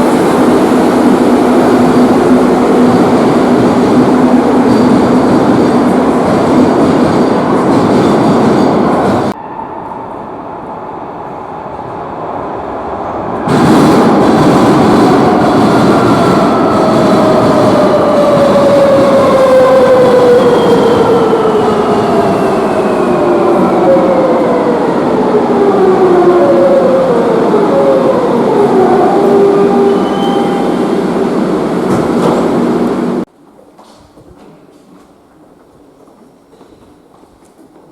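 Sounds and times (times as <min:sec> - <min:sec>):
underground train rail and wheel noise: 0:00.0 - 0:37.9.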